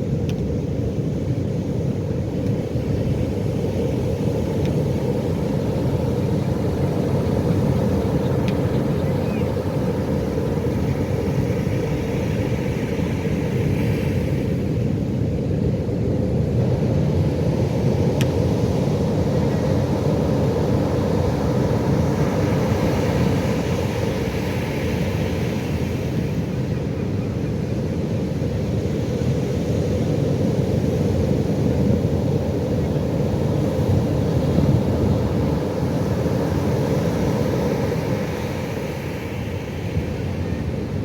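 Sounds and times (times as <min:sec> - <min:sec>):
ocean surf rumbling: 0:01.0 - 0:15.2, 0:15.8 - 0:41.0.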